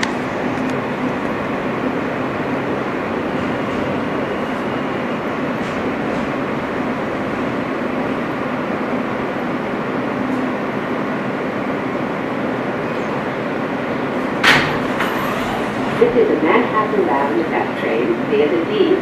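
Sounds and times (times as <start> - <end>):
subway car rumble and hiss: 0.0 - 19.0.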